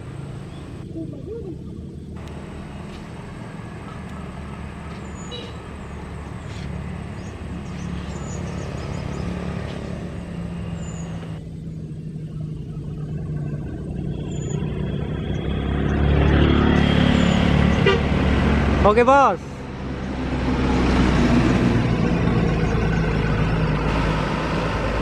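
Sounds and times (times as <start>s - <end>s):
diesel bus engine approaching: 0.0s - 25.0s.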